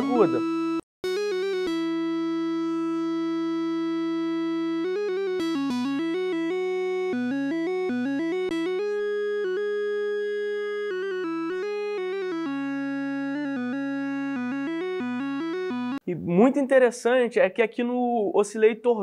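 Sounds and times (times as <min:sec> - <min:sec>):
analog synthesizer notes: 0:00.0 - 0:16.0.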